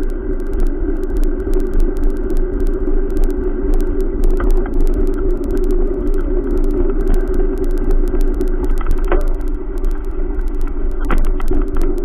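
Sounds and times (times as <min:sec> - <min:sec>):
bicycle rolling on concrete: 0:00.0 - 0:12.0.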